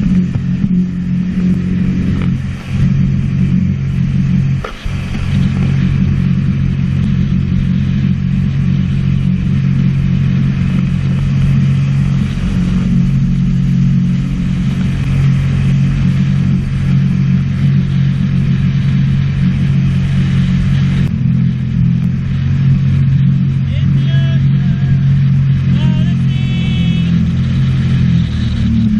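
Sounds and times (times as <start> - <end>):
hiss of wind and water: 0.0 - 28.9
watercraft engine running: 0.0 - 28.9.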